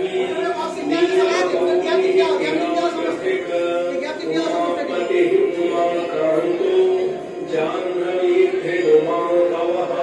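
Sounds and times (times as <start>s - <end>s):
devotional chant-like singing: 0.0s - 10.0s.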